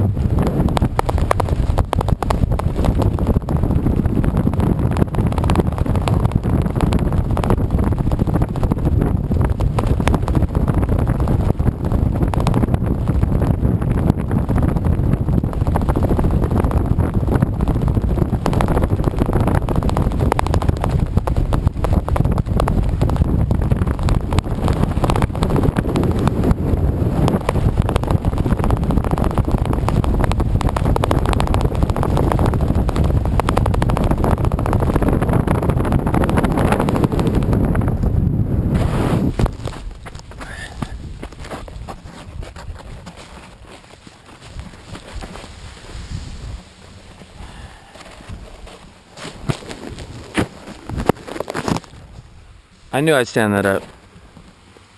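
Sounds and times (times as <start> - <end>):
wind blasting across microphone: 0.0 - 54.9.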